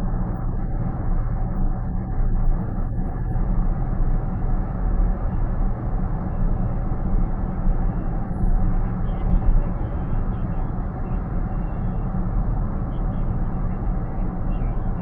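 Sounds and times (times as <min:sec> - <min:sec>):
road and tyre noise in car: 0:00.0 - 0:15.0.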